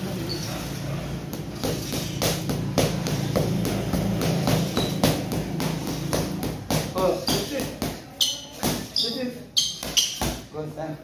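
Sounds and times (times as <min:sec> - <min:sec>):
boxing gloves hitting mitts: 0:01.2 - 0:10.5.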